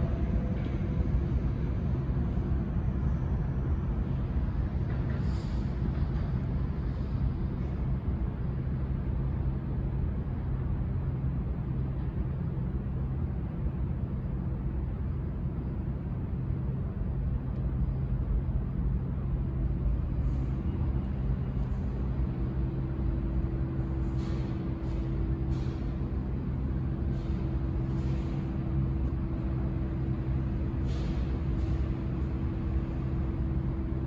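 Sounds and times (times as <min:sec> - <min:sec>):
steady hum: 0:00.0 - 0:34.0
subway train rumble: 0:00.0 - 0:34.0.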